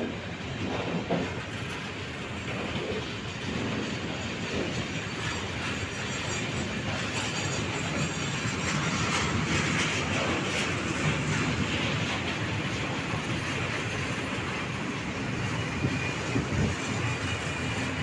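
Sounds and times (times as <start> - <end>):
train wheel clicks: 0.0 - 18.0
train wheels rumbling on rails: 0.0 - 18.0.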